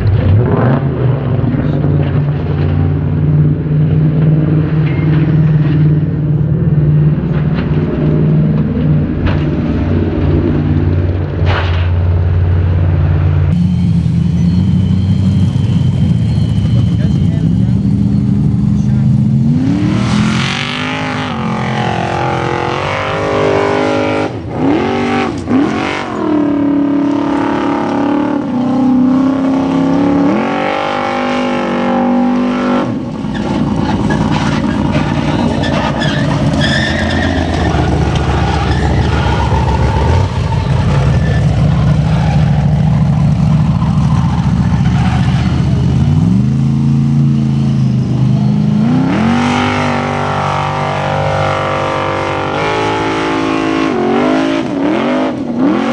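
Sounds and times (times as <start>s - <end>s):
buggy engine revving: 0.0s - 55.9s.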